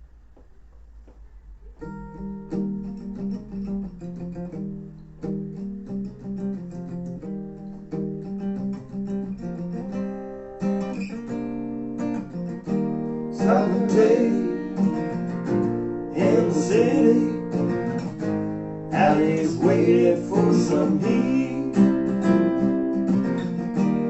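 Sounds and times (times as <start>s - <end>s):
acoustic guitar chords: 1.0s - 24.0s.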